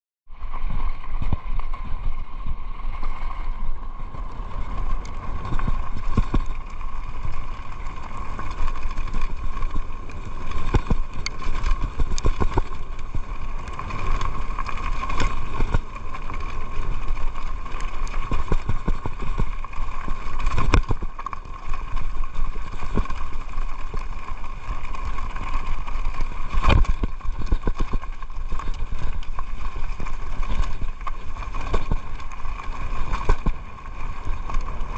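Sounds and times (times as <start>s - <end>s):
bike rattling: 0.6s - 34.9s
tyres crunching over stones: 4.4s - 34.9s
bike knocking on rocks: 5.2s - 24.1s, 25.0s - 34.9s.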